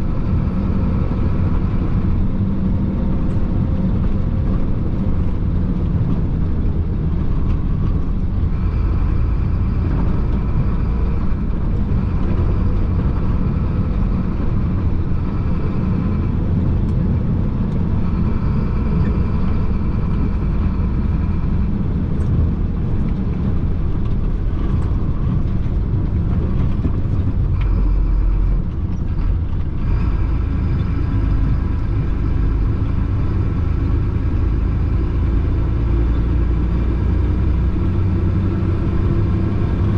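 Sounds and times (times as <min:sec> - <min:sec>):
truck engine drone: 0:00.0 - 0:39.9.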